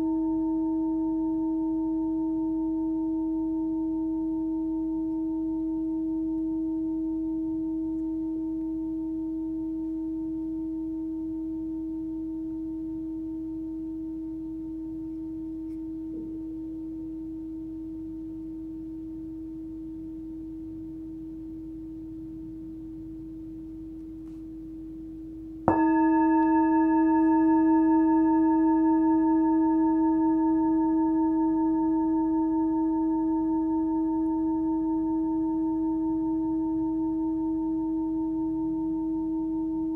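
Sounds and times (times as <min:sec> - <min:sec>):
singing bowl ringing: 0:00.0 - 0:25.0, 0:25.6 - 0:39.9.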